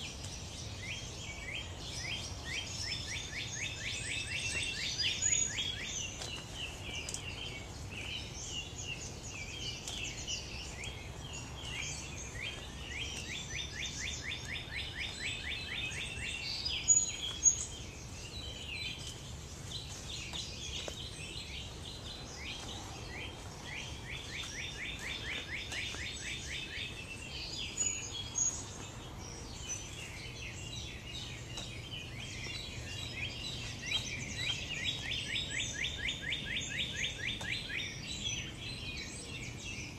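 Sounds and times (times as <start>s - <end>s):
loud bird calls: 0.0s - 39.9s
small birds trilling: 0.0s - 39.9s.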